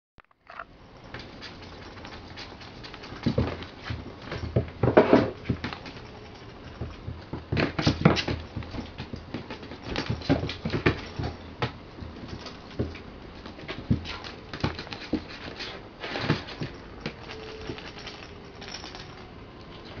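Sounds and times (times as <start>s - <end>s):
kitten paws scrabbling on wood: 1.0s - 19.0s.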